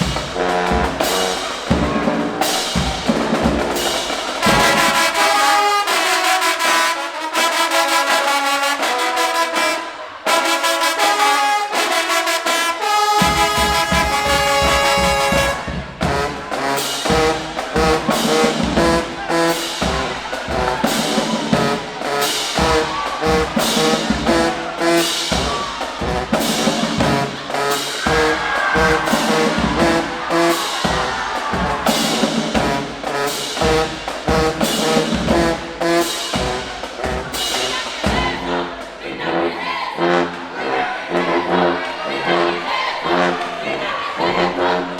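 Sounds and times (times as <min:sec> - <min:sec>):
drumline beat: 0:00.0 - 0:42.2
marching band brass: 0:00.0 - 0:44.9.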